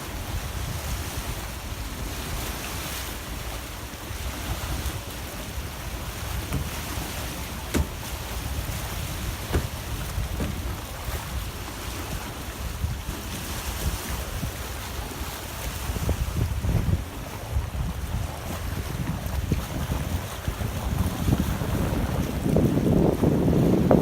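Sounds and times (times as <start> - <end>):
sea waves: 0.0 - 24.0
wind buffeting microphone: 0.0 - 24.0.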